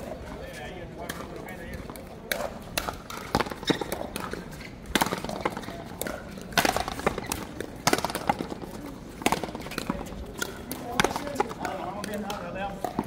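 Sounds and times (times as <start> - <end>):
paddles hitting ball: 1.0 - 13.0.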